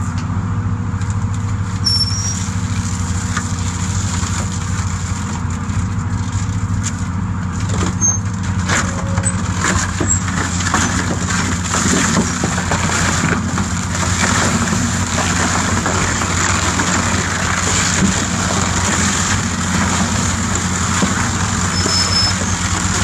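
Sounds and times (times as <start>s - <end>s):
shredder machine drone: 2.5s - 23.0s.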